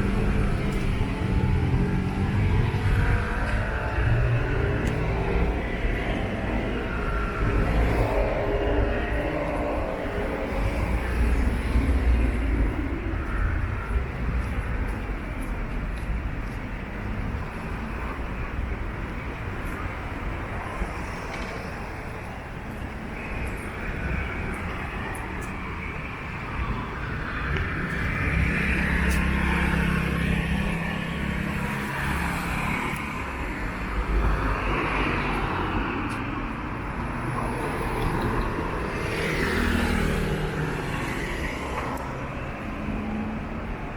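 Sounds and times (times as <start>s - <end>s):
city road traffic: 0.0s - 43.9s
vehicles passing: 0.0s - 43.9s.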